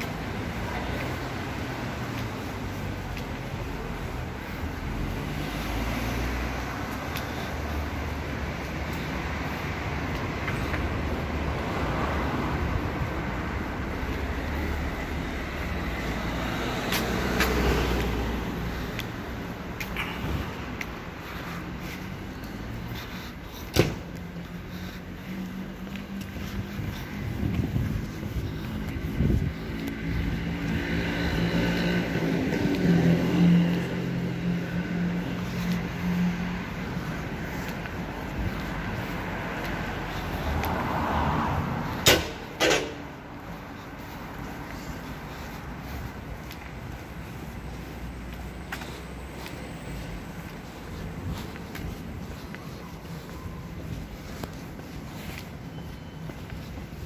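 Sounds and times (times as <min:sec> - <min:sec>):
street traffic rumble: 0:00.0 - 0:57.0
vehicle engine humming: 0:00.0 - 0:57.0.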